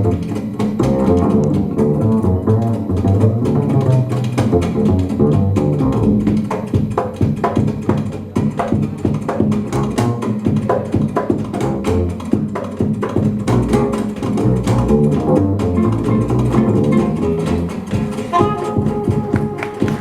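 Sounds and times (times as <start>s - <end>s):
double bass: 0.0s - 20.0s
strummed rhythm guitar: 0.0s - 20.0s.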